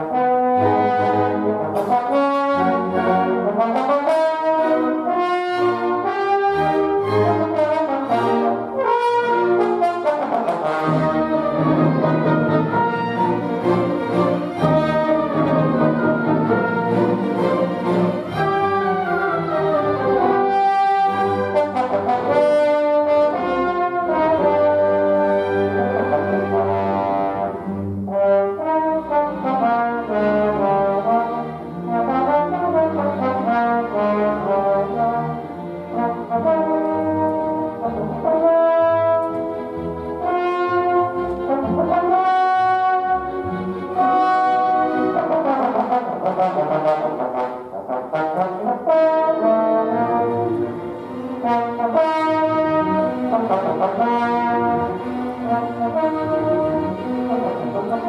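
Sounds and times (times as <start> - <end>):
solo trombone melody: 0.0 - 58.0
symphony orchestra accompanying: 0.0 - 58.0.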